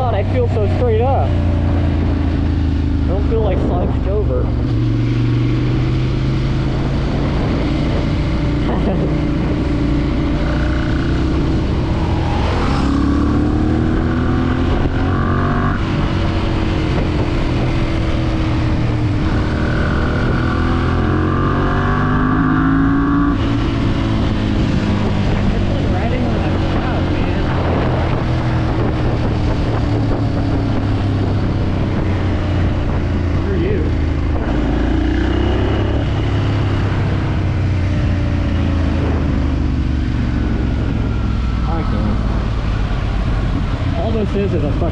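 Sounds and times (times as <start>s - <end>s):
motorcycle engine revving: 0.0s - 44.9s
wind and road noise: 0.0s - 44.9s.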